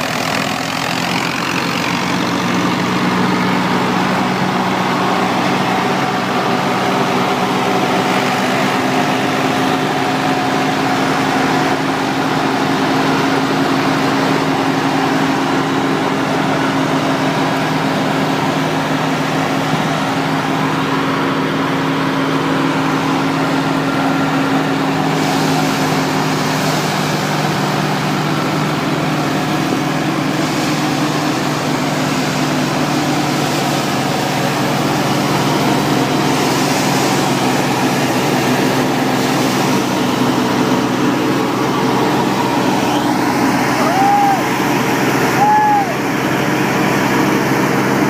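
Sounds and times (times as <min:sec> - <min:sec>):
straw rushing through thresher: 0:00.0 - 0:48.0
tractor engine hum: 0:00.0 - 0:48.0.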